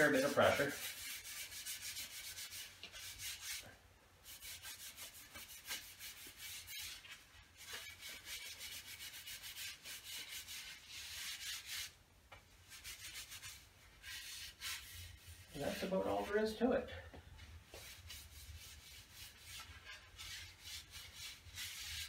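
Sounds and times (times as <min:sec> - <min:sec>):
cloth rubbing wooden paddle: 0:00.0 - 0:16.5, 0:17.4 - 0:22.0.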